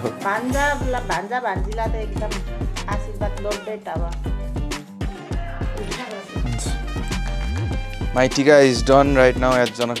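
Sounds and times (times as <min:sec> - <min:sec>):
music with quick drum beat: 0:00.0 - 0:10.0
deep bass line: 0:00.6 - 0:09.6.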